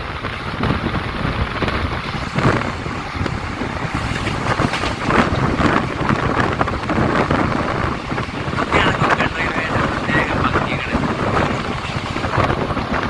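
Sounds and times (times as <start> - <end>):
train rumbling at speed: 0.0 - 13.0
wind buffeting microphone: 0.0 - 13.0.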